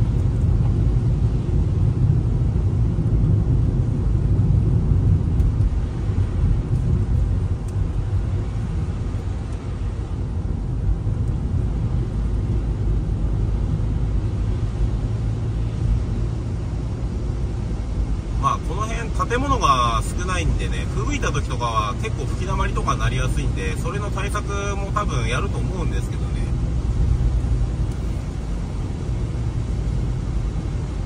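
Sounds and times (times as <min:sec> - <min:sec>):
car tyres on slushy road: 0:00.0 - 0:31.0.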